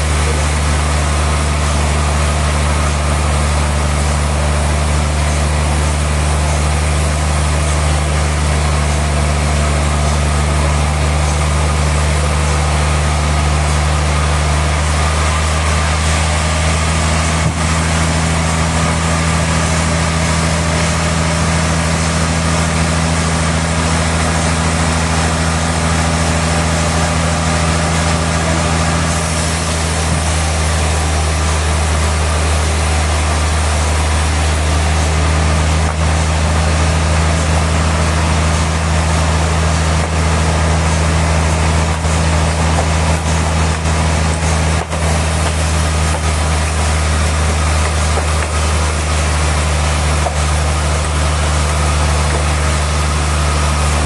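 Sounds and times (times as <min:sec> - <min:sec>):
sawmill machinery hum and hiss: 0:00.0 - 0:54.0.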